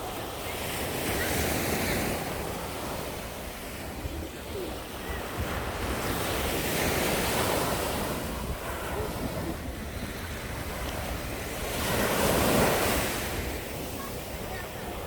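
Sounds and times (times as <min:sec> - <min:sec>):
sea waves breaking on beach: 0:00.0 - 0:15.0
wind buffeting microphone: 0:02.0 - 0:15.0.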